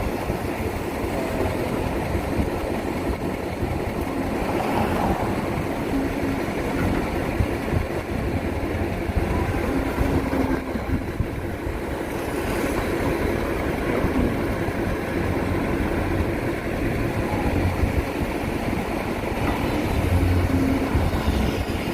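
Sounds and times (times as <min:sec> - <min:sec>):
excavator diesel engine rumbling: 0:00.0 - 0:21.9.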